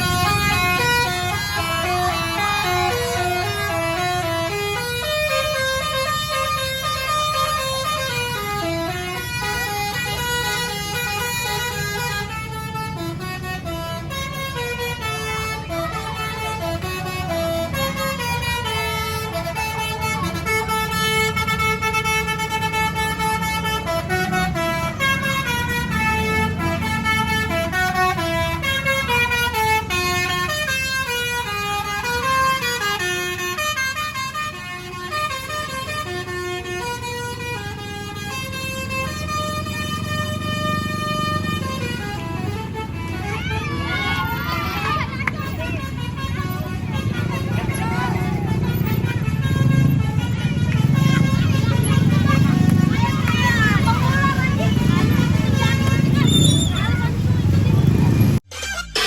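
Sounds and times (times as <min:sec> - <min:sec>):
low engine rumble: 0:00.0 - 0:58.5
bus horn playing a tune: 0:00.0 - 0:59.0.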